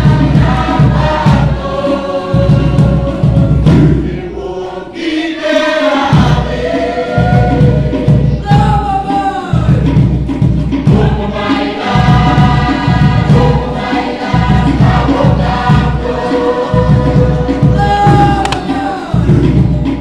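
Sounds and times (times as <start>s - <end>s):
fast steady drumbeat: 0.0s - 4.6s, 5.5s - 20.0s
group singing in chorus: 0.0s - 20.0s.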